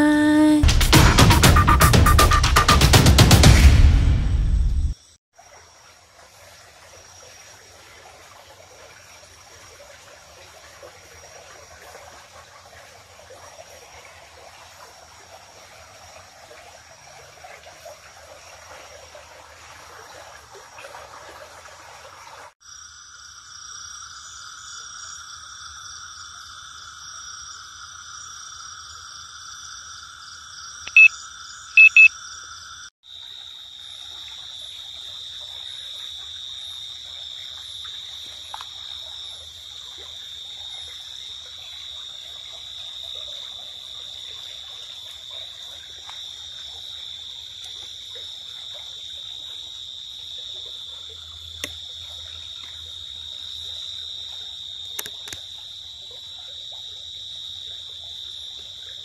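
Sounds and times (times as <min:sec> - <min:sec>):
crickets and insects trilling: 0:05.0 - 0:20.1, 0:22.6 - 0:59.0.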